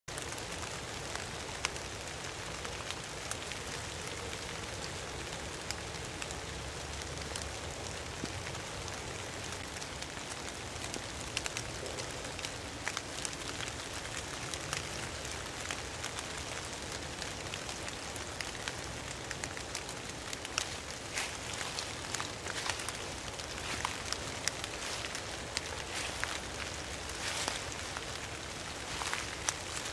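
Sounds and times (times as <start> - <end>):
rain drops ticking: 0.1 - 29.9
steady rain hiss: 0.1 - 29.9.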